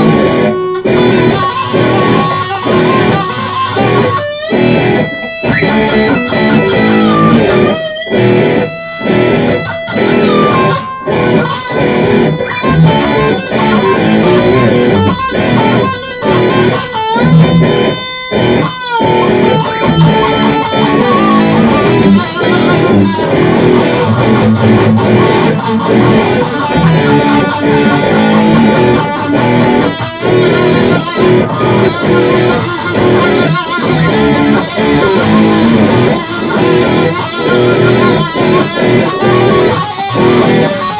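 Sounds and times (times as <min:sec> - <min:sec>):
hard rock on electric guitar: 0:00.0 - 0:40.9.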